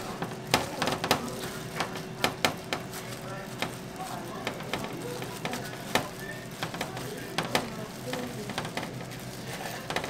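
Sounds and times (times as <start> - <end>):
frying sizzle: 0.0 - 10.0.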